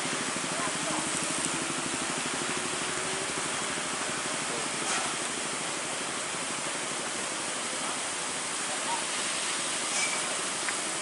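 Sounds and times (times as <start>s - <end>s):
heavy rain on a wet road: 0.0s - 11.0s.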